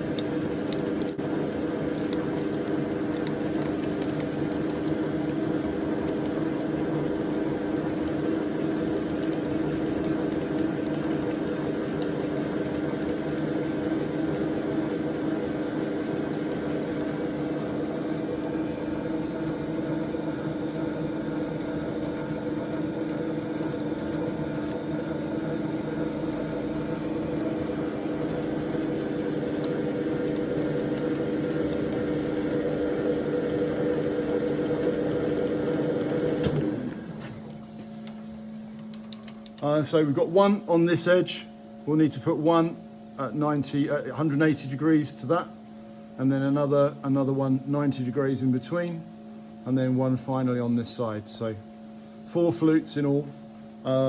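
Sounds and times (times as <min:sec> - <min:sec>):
milling machine humming: 0:00.0 - 0:54.0.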